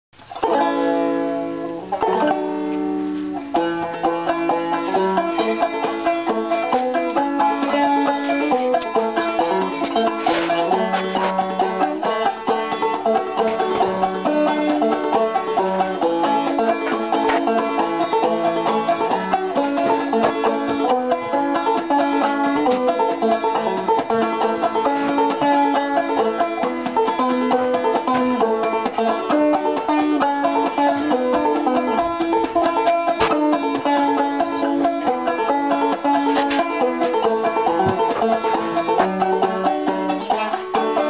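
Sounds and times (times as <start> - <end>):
bluegrass music with banjo: 0.2 - 41.0.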